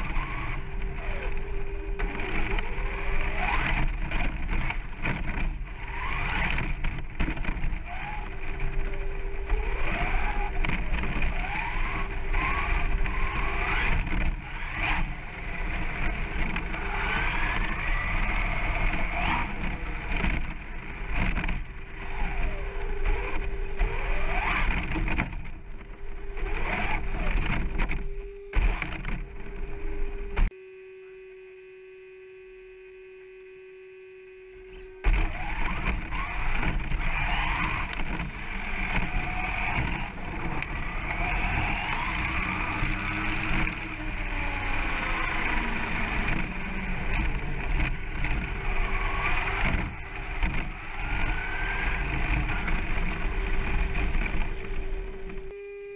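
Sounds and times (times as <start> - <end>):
tyres on gravel: 0.0 - 30.6, 34.7 - 55.6
electric motor whining: 0.0 - 55.9
steady hum: 0.0 - 55.9.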